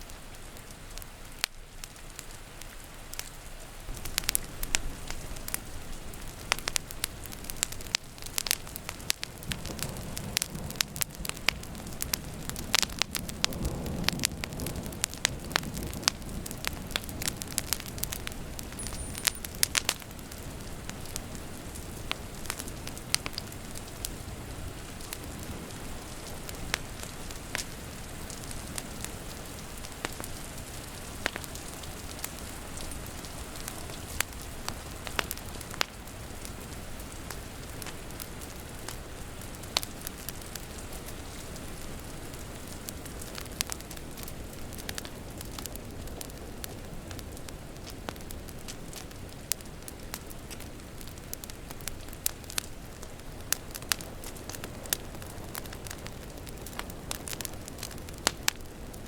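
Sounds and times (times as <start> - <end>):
rain hissing: 0.0 - 59.0
wood fire crackling: 0.0 - 59.0.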